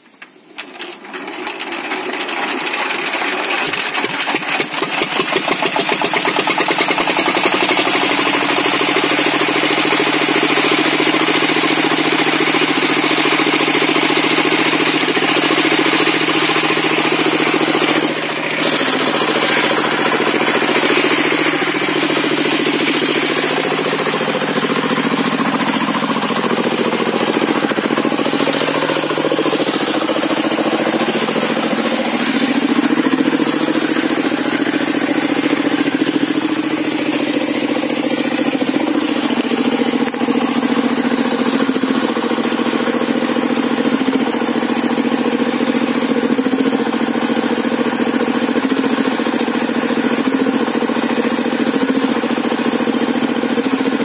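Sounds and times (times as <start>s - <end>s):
engine powering table saw: 0.0s - 54.0s.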